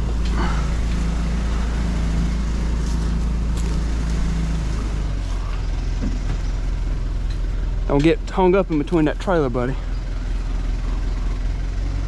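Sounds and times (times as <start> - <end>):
heavy vehicle engine droning: 0.0 - 12.0.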